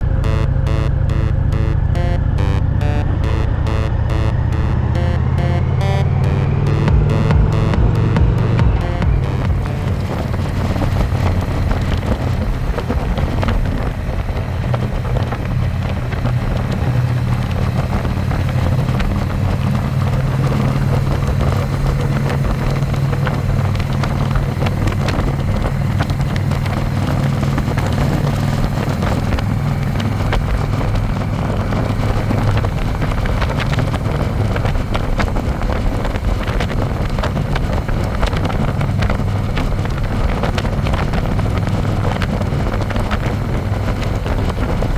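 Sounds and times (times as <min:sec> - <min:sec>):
motorcycle engine cruising: 0:00.0 - 0:44.9
wind buffeting microphone: 0:06.4 - 0:44.9.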